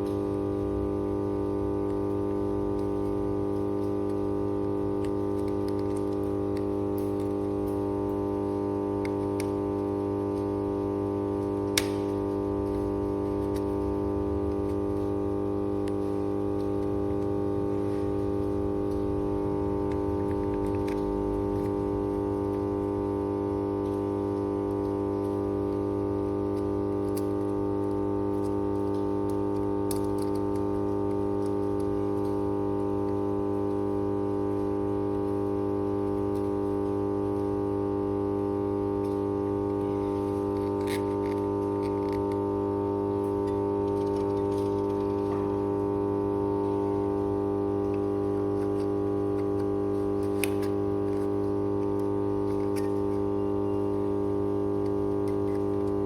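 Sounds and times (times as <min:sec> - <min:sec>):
transformer electrical hum: 0:00.0 - 0:56.0.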